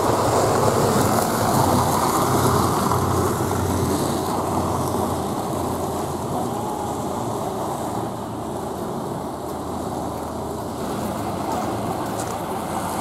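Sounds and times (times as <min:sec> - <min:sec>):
bus diesel engine pulling away: 0:00.0 - 0:13.0.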